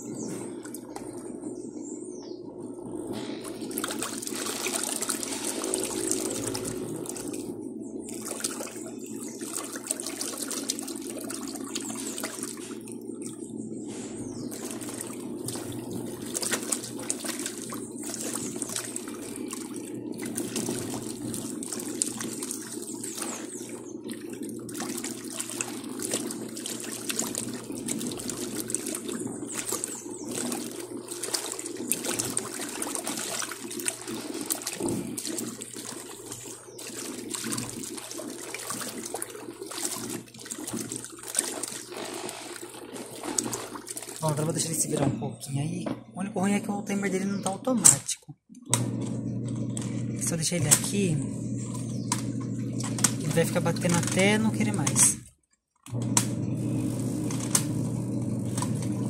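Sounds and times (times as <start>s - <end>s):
motor hum: 0.0s - 48.0s, 48.6s - 55.3s, 55.9s - 59.0s
washing machine sloshing water: 0.0s - 59.0s.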